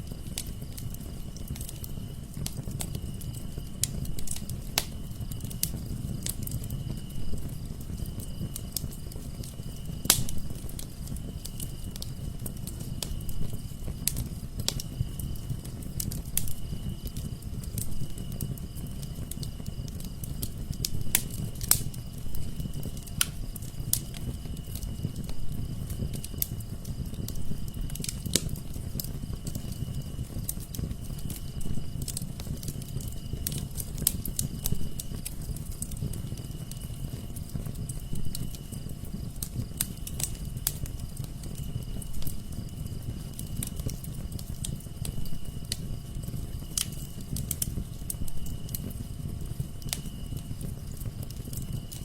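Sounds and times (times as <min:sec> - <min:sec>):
low rumble of flames: 0:00.0 - 0:52.0
wood fire crackling and popping: 0:00.0 - 0:52.0.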